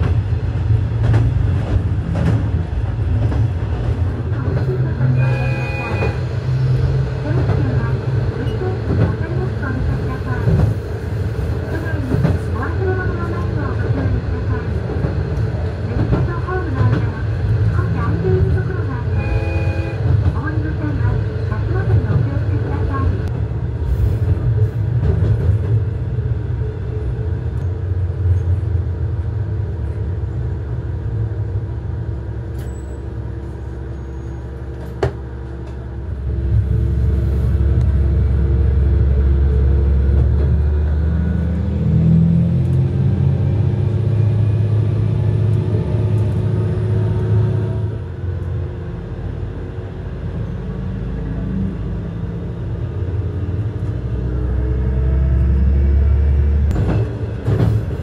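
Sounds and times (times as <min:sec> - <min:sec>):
diesel railcar engine rumble: 0:00.0 - 0:58.0.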